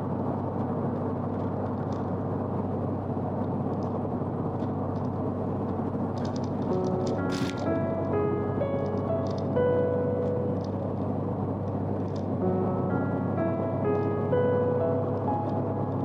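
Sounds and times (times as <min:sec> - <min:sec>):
background piano music: 0:00.0 - 0:16.0
car road and engine noise: 0:00.0 - 0:16.0.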